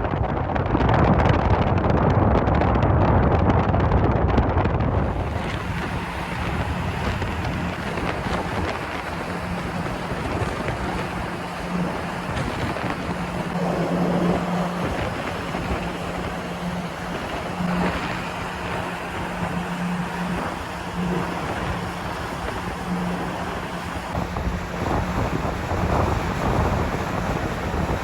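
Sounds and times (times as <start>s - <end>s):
low ship engine drone: 0.0s - 28.0s
wind and water rushing: 0.0s - 28.0s.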